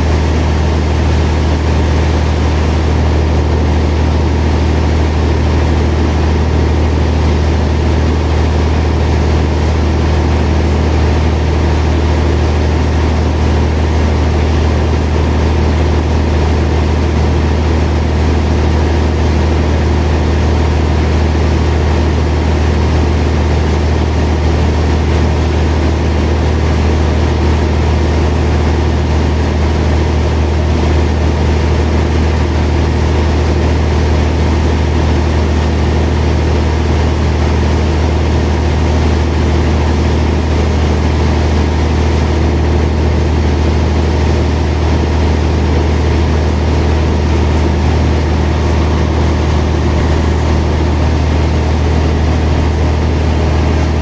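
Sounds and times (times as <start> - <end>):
sawmill machine hum: 0.0 - 54.0.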